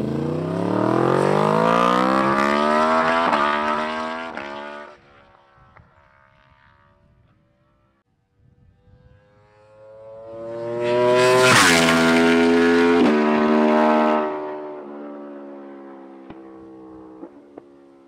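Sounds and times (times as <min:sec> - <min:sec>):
motorcycle engine accelerating hard: 0:00.0 - 0:08.0, 0:08.6 - 0:17.7.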